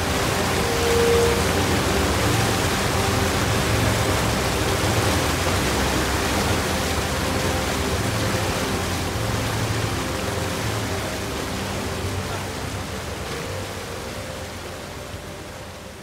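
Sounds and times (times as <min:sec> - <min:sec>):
boat wake rushing water: 0:00.0 - 0:16.0.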